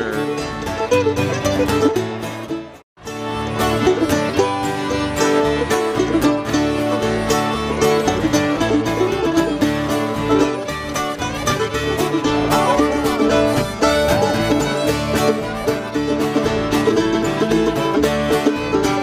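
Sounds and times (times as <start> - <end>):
folk dance band playing: 0.0 - 19.0.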